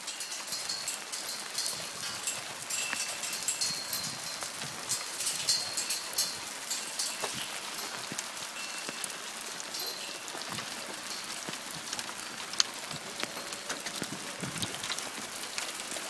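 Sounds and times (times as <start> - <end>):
hailstones striking ground and plants: 0.0 - 16.0.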